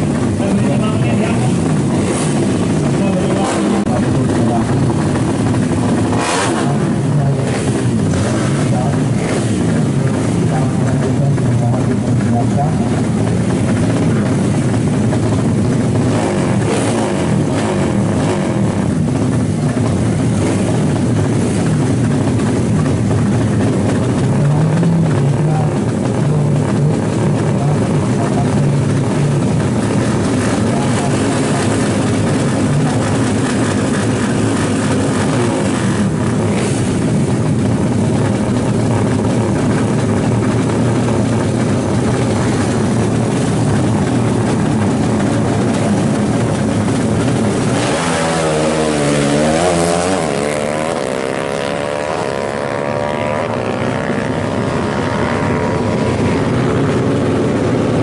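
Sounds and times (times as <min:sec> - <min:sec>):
loud steady din: 0:00.0 - 0:58.0
motorcycle engines revving: 0:00.0 - 0:58.0.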